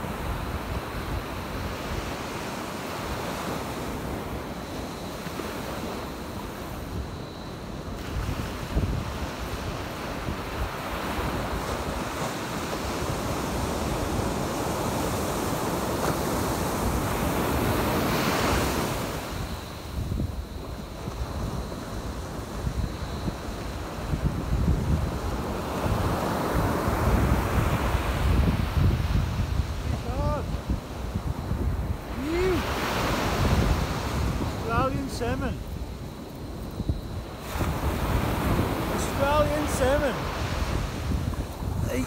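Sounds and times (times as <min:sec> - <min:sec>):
surf waves breaking on sand: 0:00.0 - 0:42.0
wind buffeting microphone: 0:00.0 - 0:42.0.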